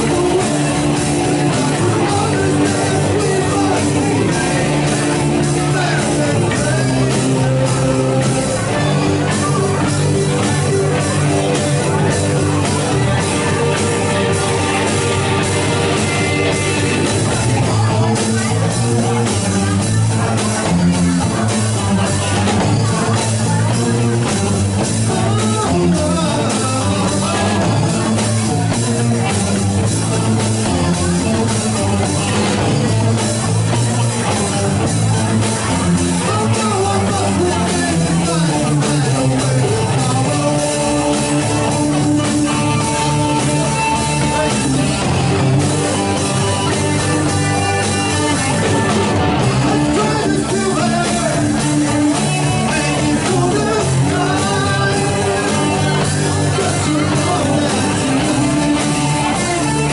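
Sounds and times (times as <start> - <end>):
bass: 0.0 - 59.9
drum kit: 0.0 - 59.9
electric guitar: 0.0 - 59.9
keyboards: 0.0 - 59.9.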